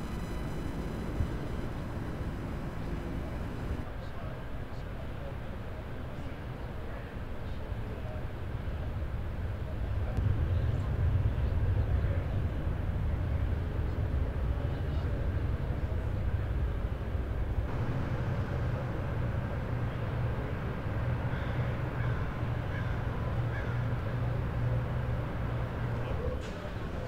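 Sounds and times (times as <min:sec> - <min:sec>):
low outdoor background rumble: 0:00.0 - 0:04.0, 0:07.6 - 0:27.0.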